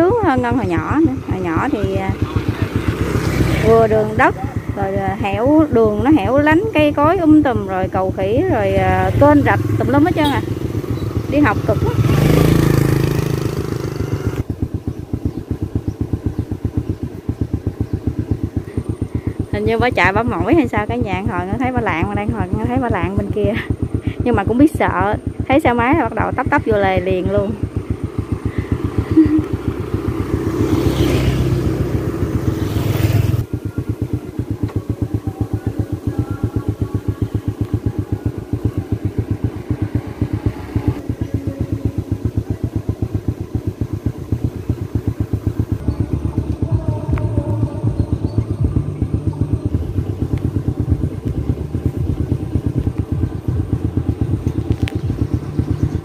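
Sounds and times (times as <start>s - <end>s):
motorbike engine idling: 0.0s - 56.0s
motorbike passing by: 0.0s - 56.0s.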